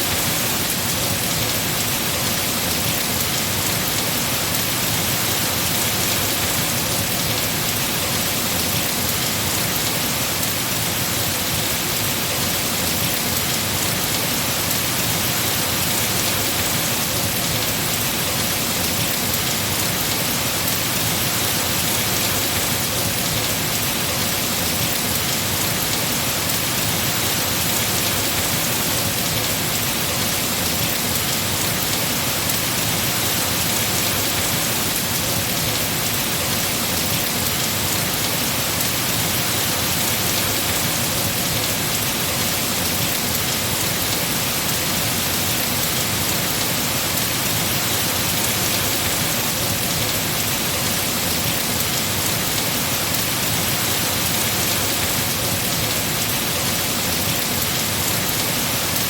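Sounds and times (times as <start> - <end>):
heavy rain on trees: 0.0 - 59.0.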